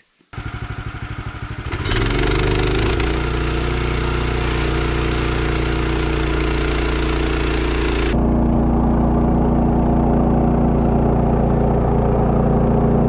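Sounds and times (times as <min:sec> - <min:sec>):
sawmill engine revving: 0:00.4 - 0:13.0.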